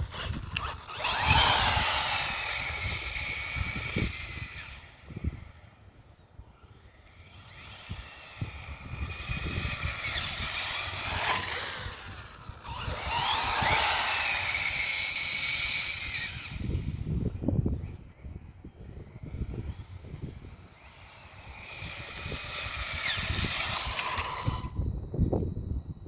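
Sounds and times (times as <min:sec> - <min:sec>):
rc car motor whining: 0:00.0 - 0:26.0.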